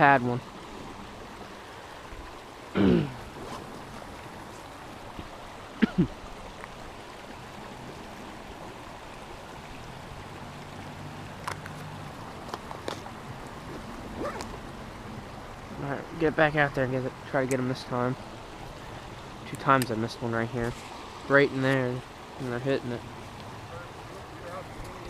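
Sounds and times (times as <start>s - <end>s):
stream rapids: 0.0s - 25.0s.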